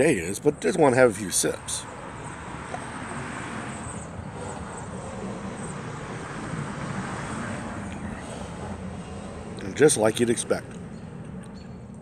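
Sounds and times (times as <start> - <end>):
distant engines rumbling: 0.0 - 12.0.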